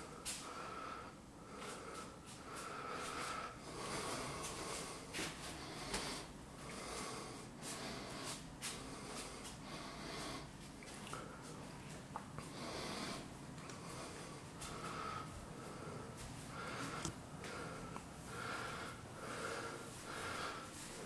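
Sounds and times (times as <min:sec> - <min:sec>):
quiet breathing: 0:00.0 - 0:21.0.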